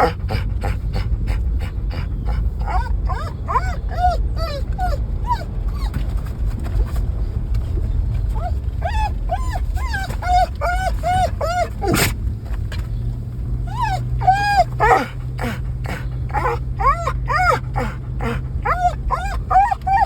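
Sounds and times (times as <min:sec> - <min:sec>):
dog whining and yipping: 0:00.0 - 0:06.2, 0:08.2 - 0:12.2, 0:13.6 - 0:20.0
car rumble: 0:00.0 - 0:20.0.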